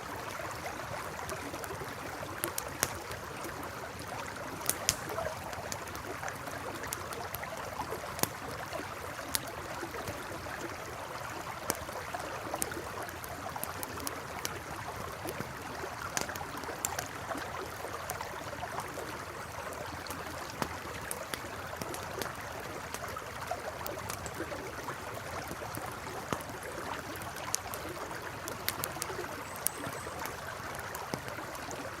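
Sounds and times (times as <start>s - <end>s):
campfire crackling: 0.0s - 32.0s
river flowing: 0.0s - 32.0s.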